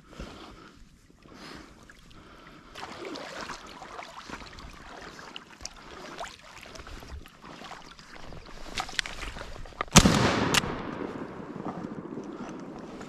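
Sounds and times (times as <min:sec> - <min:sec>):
light water splashing: 0:01.0 - 0:13.0.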